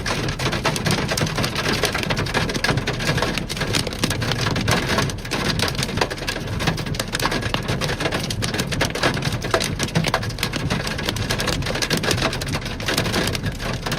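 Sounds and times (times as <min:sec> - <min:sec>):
heavy rain pelting: 0:00.0 - 0:13.9.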